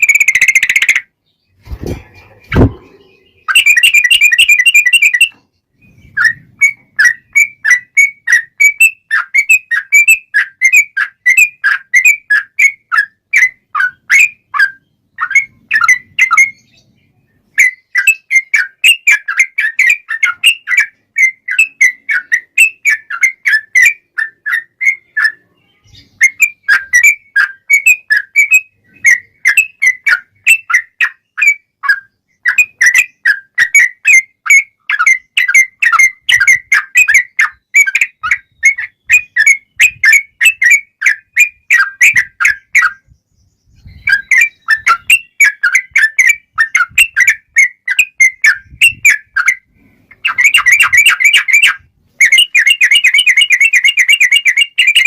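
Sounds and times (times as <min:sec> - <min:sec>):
bulbul singing rapid trills: 0:00.0 - 0:55.0.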